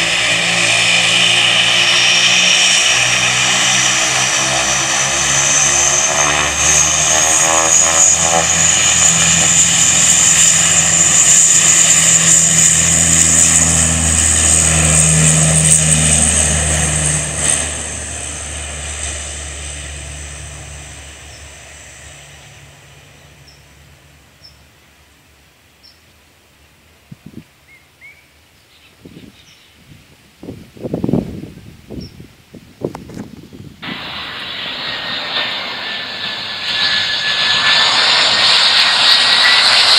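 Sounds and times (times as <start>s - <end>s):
high turbine whine: 0.0s - 25.5s, 32.8s - 39.9s
turboprop propeller drone: 0.0s - 25.6s, 30.5s - 39.9s.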